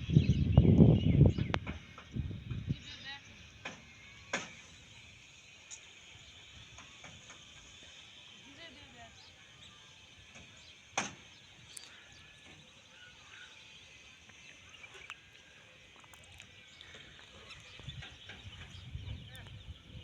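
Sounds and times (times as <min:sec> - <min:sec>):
distant birds calling: 0:00.0 - 0:20.0.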